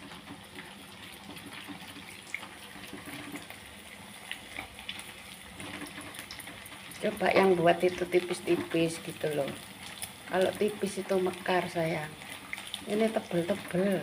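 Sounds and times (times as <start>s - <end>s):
crackers deep-frying in oil: 0.0s - 14.0s.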